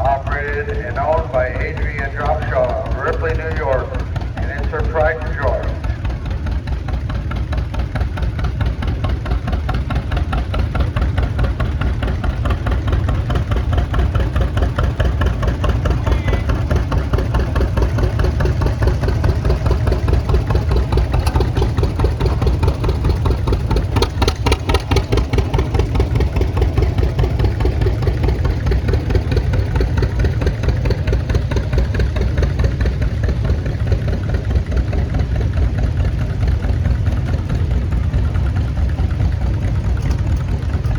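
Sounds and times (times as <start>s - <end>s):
tractor engines running slowly: 0.0s - 40.9s.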